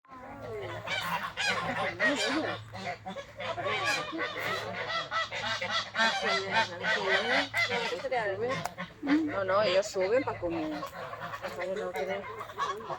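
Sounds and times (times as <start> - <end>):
geese honking: 0.1 - 12.9.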